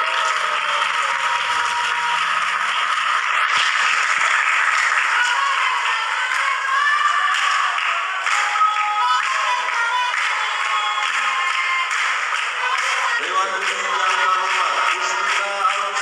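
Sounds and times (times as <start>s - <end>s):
crowd applauding: 0.0s - 16.0s
crowd cheering: 0.0s - 16.0s.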